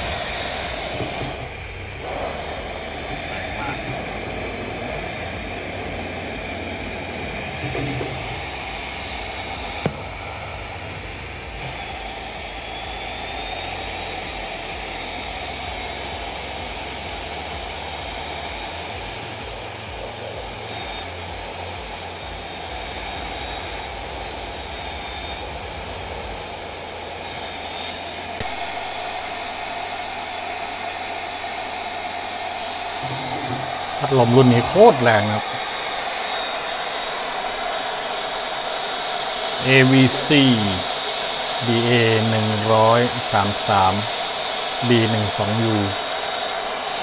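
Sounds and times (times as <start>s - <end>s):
blower fan air rush: 0.0s - 47.0s
faint high whine: 0.0s - 47.0s.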